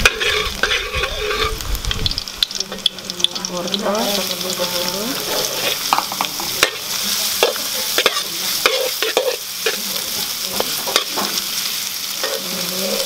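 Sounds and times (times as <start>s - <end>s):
metal ladle scraping a wok: 0.0s - 1.6s, 4.1s - 13.0s
vegetables sizzling in hot oil: 0.0s - 13.0s.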